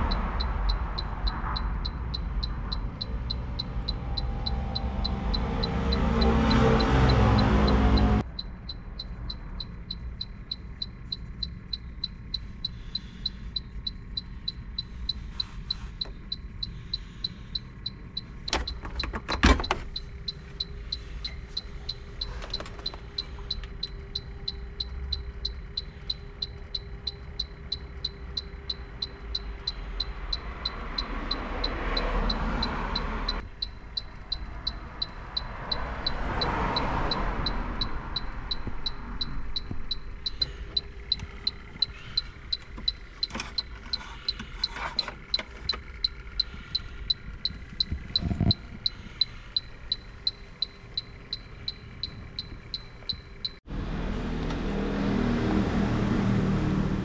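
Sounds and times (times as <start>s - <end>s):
van engine running with ticking: 0.0s - 57.0s.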